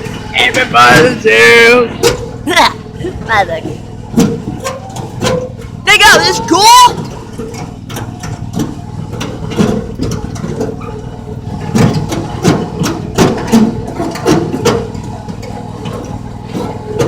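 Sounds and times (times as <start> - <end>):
train rumbling: 0.0 - 17.0
wheels clattering over track: 0.0 - 17.0.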